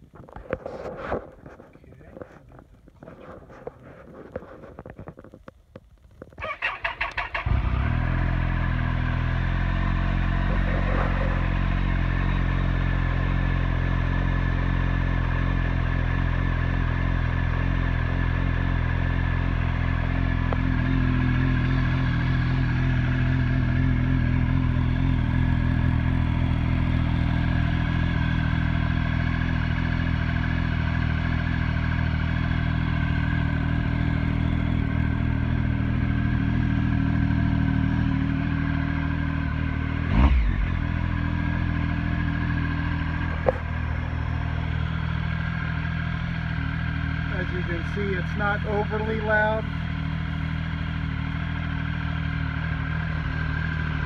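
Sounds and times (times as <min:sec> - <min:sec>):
motorcycle engine idling: 0:06.4 - 0:54.0.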